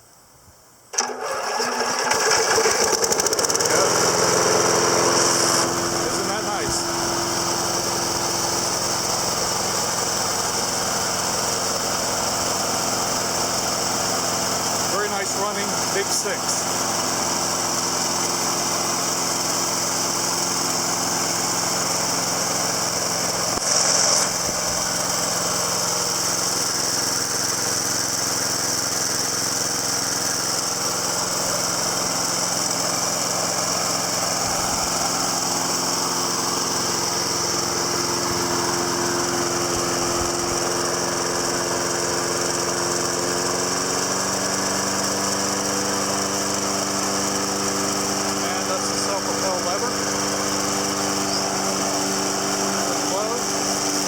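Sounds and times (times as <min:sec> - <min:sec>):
lawn mower engine running: 0:00.9 - 0:54.0.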